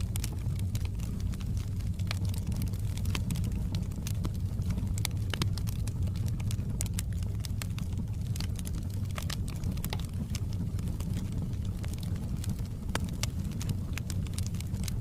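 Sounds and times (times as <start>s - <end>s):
low rumble of fire: 0.0s - 15.0s
wood fire crackling: 0.0s - 15.0s.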